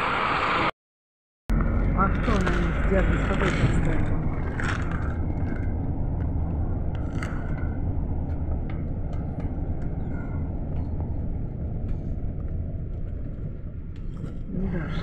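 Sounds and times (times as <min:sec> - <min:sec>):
minibus engine and road rumble: 0:00.0 - 0:00.7, 0:01.5 - 0:15.0.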